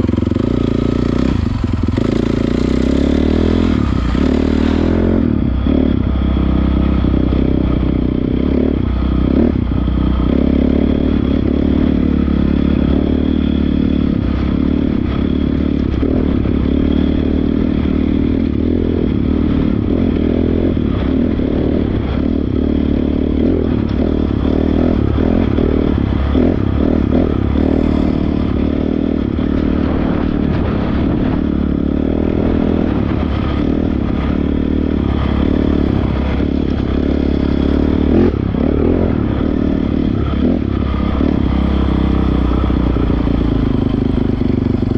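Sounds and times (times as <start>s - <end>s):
dirt bike engine running: 0.0s - 44.9s.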